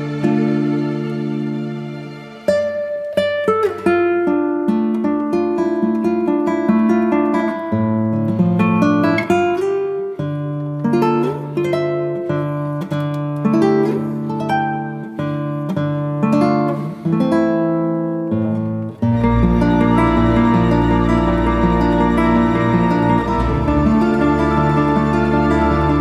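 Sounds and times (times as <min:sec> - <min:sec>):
plucked acoustic guitar: 0:00.0 - 0:26.0.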